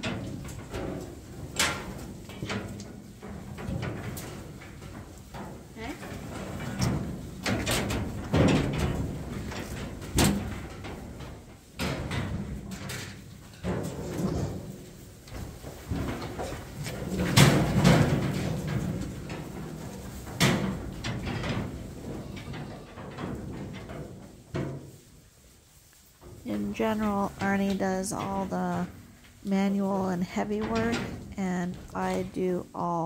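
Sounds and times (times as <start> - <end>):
metal gates banging and clanking: 0.0 - 25.0, 26.2 - 32.3.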